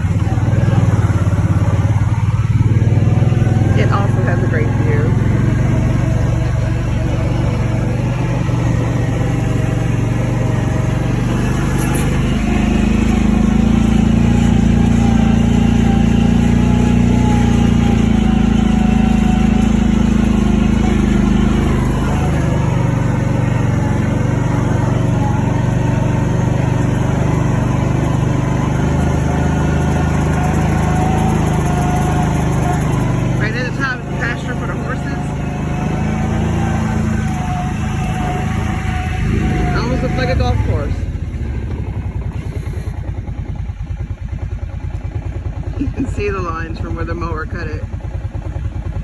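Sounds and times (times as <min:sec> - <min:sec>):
small vehicle engine running: 0:00.0 - 0:49.0.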